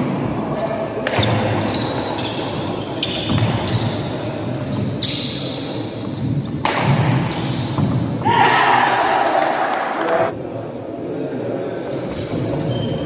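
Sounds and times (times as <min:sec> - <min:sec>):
murmur of spectators: 0:00.0 - 0:06.6, 0:08.2 - 0:13.0.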